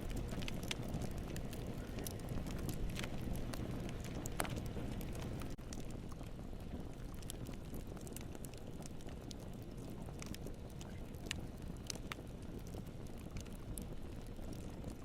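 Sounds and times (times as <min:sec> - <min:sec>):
burning wood crackling: 0:00.0 - 0:15.0
campfire flame rushing: 0:00.0 - 0:15.0.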